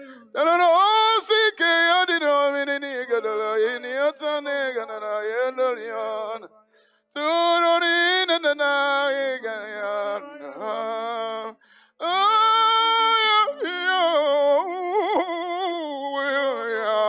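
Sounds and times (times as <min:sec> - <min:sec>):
person singing with vibrato: 0:00.0 - 0:06.5, 0:07.1 - 0:17.0.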